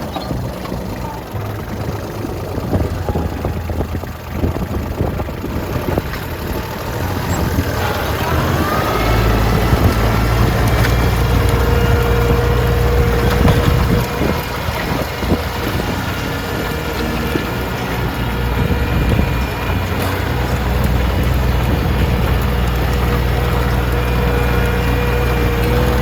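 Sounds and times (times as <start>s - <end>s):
steady whine: 0.0s - 26.0s
tractor engine running: 0.0s - 26.0s.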